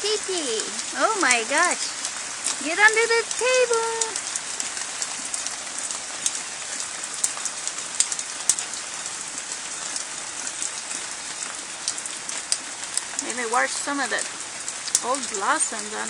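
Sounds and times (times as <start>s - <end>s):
rain falling on plants: 0.0s - 16.0s.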